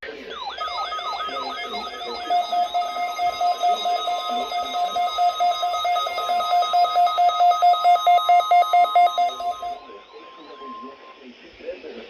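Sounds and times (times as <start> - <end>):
weather radio alarm beeping: 0.0 - 11.6.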